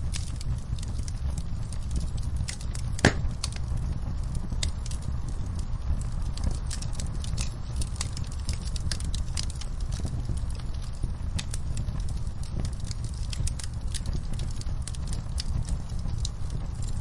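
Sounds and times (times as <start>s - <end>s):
fire pops and snaps: 0.0s - 17.0s
low rumble: 0.0s - 17.0s
wood fire crackling: 0.0s - 17.0s.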